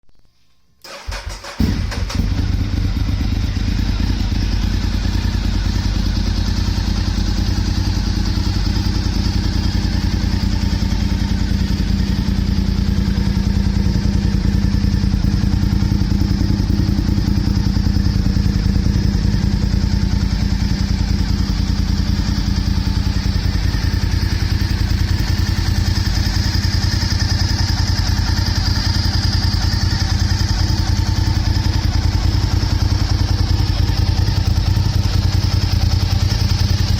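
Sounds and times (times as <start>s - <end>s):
motorcycle engine idling: 0.9s - 36.9s.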